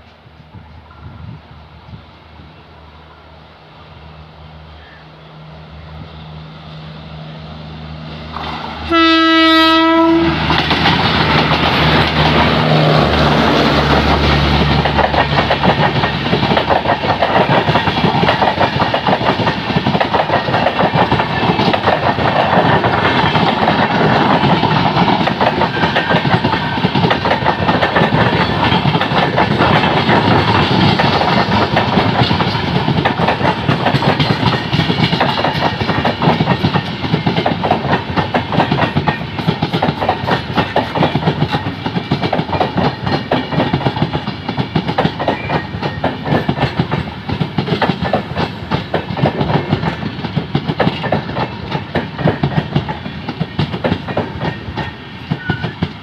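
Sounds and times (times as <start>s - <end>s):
train rushing rumble: 0.0s - 56.0s
train wheels clickety-clack: 8.3s - 56.0s.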